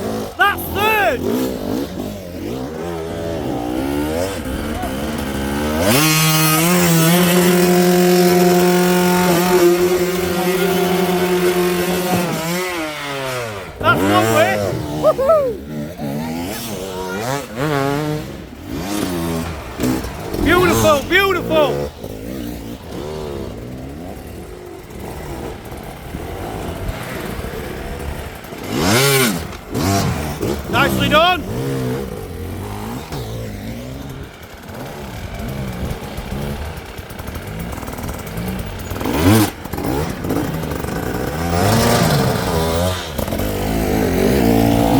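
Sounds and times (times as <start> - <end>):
dirt bike engine revving high: 0.0 - 44.9.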